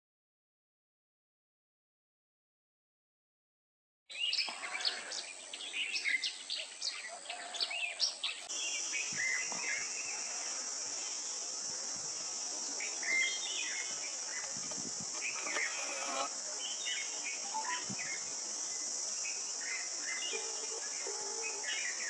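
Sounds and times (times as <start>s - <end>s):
small birds chirping: 4.1s - 22.0s
high buzz of insects: 4.2s - 22.0s.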